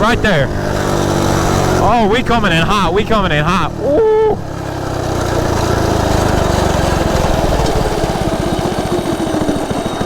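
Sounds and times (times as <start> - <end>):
minibike engine running hard: 0.0 - 10.0.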